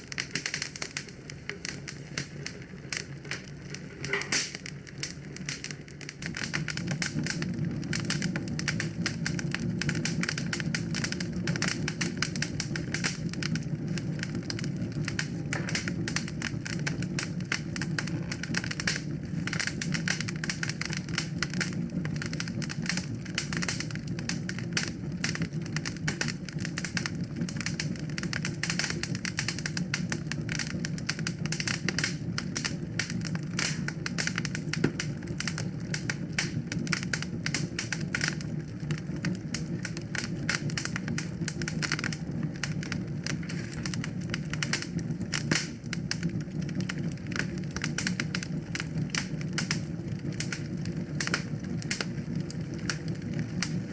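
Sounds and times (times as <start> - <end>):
low fire rumble: 0.0 - 53.9
wood fire crackling and popping: 0.0 - 53.9.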